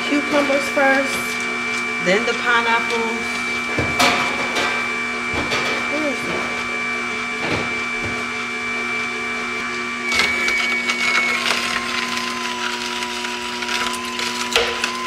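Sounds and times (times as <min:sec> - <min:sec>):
juicer motor hum: 0:00.0 - 0:15.0.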